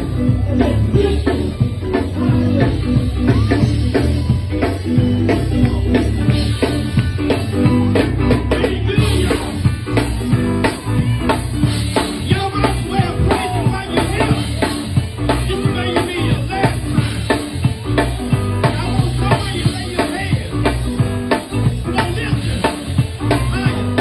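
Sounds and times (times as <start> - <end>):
drum kit beat: 0.0 - 24.0
keyboard: 0.0 - 24.0
low bass notes: 0.0 - 24.0.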